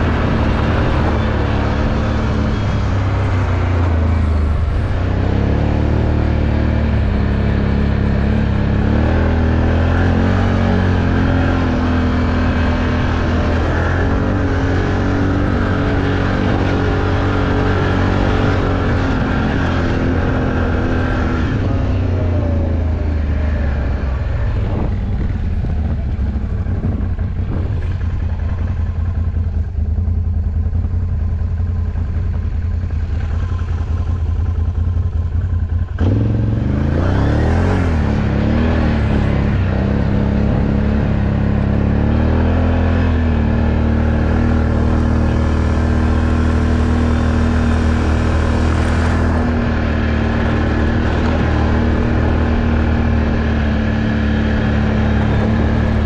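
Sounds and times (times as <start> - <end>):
off-road vehicle engine revving: 0.0 - 31.0, 33.0 - 56.0.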